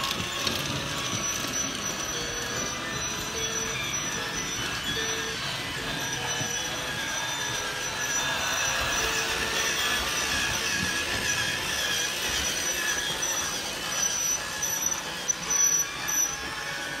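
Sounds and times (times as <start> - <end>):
toy train clicks: 0.0 - 17.0
toy train motor whirring: 0.0 - 17.0
wheels rattling on rails: 0.0 - 17.0.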